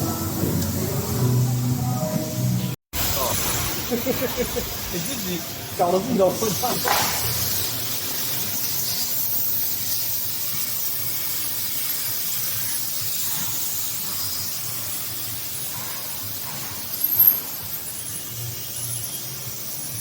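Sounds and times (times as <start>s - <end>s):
machine cutting sheet metal: 3.0s - 20.0s.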